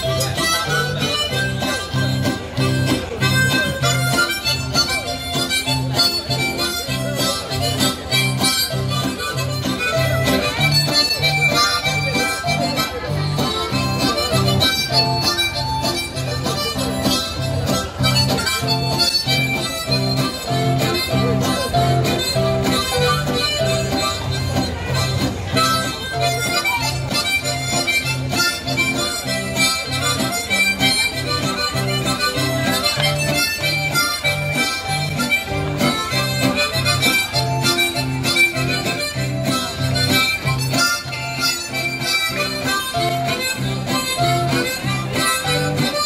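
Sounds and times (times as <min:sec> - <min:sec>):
reedy melody: 0:00.0 - 0:46.0.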